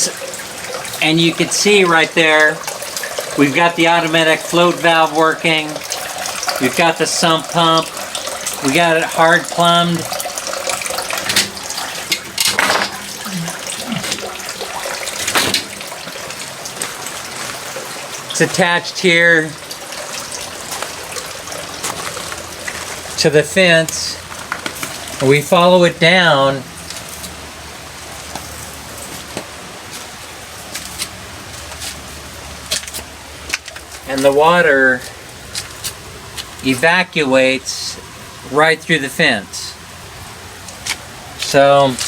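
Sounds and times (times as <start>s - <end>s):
water running and splashing: 0.0s - 37.2s, 39.7s - 42.0s
drips ticking on surfaces: 0.0s - 42.0s
steady rain hiss: 0.0s - 42.0s.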